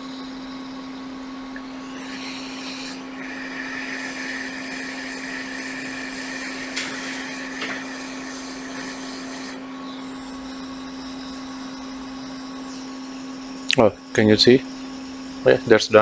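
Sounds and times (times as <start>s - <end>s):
constant hum: 0.0s - 16.0s
fan blowing air: 0.0s - 16.0s
high whine: 0.0s - 16.0s.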